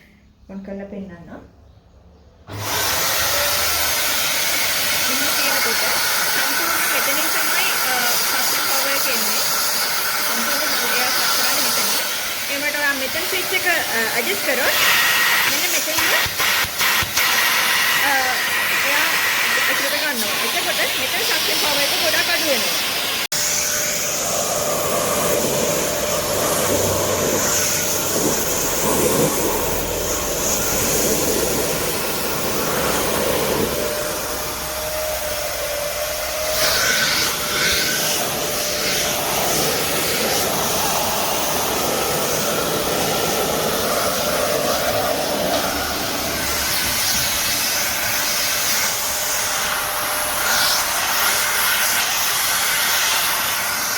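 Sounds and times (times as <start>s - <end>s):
vacuum cleaner running: 2.5s - 53.9s.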